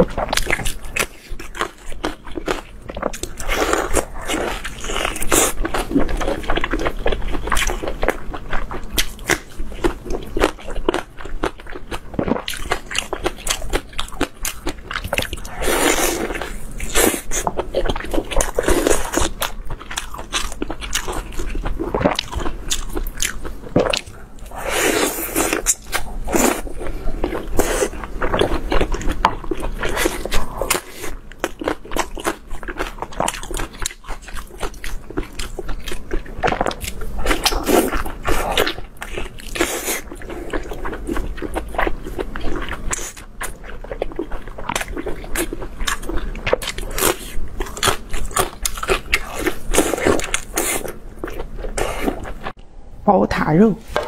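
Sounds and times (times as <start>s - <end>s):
chewing sausage: 0.0s - 52.6s.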